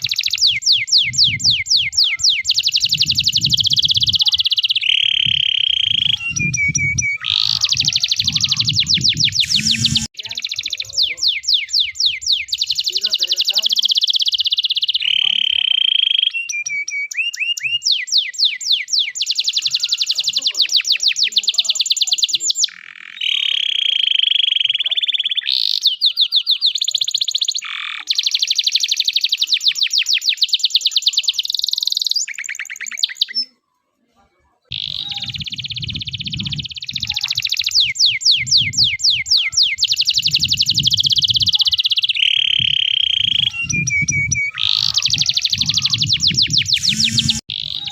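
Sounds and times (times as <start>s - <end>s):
canary singing trills: 0.0s - 33.6s, 34.7s - 47.9s.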